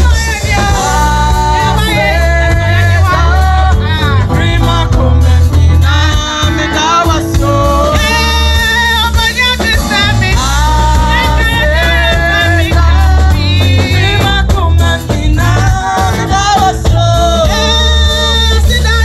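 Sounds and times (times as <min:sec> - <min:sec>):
amplified band with heavy bass: 0:00.0 - 0:19.0
women singing together: 0:00.0 - 0:19.0.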